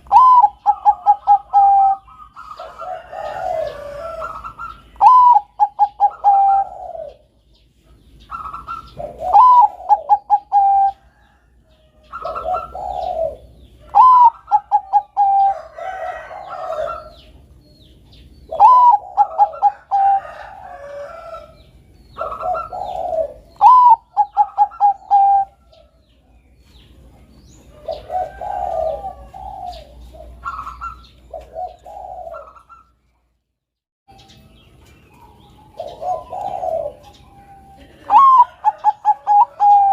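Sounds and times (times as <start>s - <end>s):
dove cooing: 0.0s - 17.5s, 18.4s - 26.0s, 27.2s - 33.0s, 35.2s - 39.9s.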